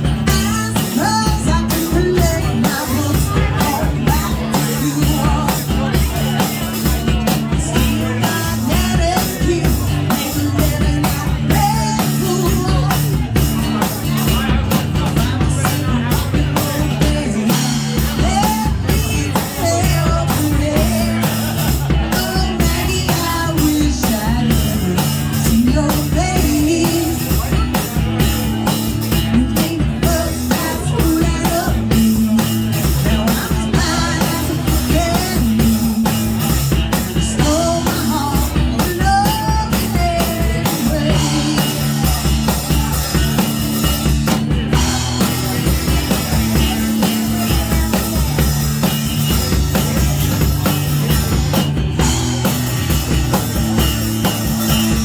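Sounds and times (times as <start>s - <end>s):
drum kit beat: 0.0s - 55.0s
rock music: 0.0s - 55.0s.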